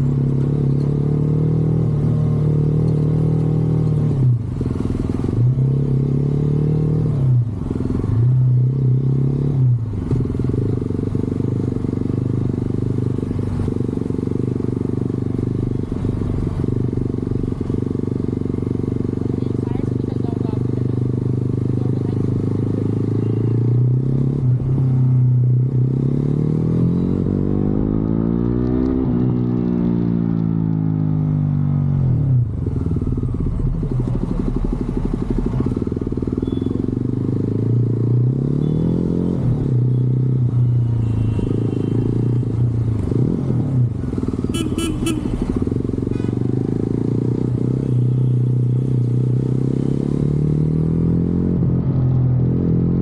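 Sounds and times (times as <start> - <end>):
motorcycle engine revving: 0.0 - 30.4, 31.0 - 53.0.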